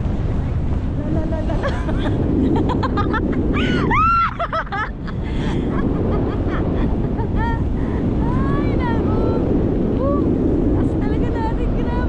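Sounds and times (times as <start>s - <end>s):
water noise: 0.0s - 12.0s
wind on microphone: 0.0s - 12.0s.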